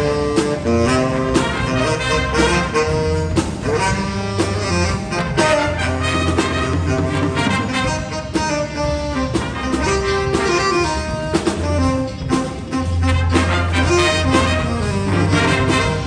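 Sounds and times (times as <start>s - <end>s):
drum kit strokes: 0.0s - 16.0s
saxophones and brass chords: 0.0s - 16.0s
walking bass line: 0.0s - 16.0s.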